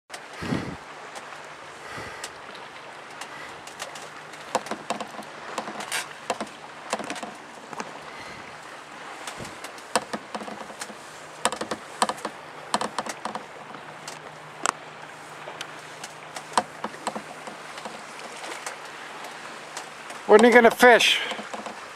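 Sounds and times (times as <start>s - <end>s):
water slapping against boat hull: 0.1s - 21.9s.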